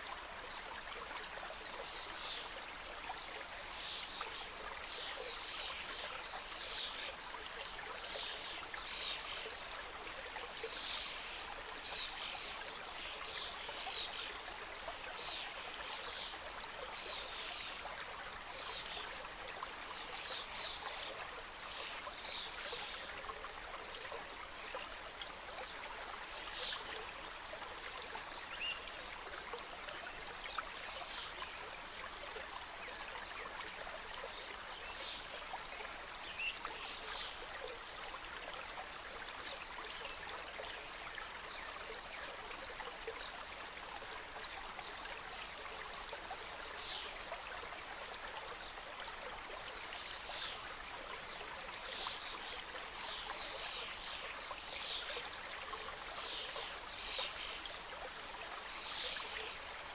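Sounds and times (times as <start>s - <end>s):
water splashing and trickling: 0.0s - 59.9s.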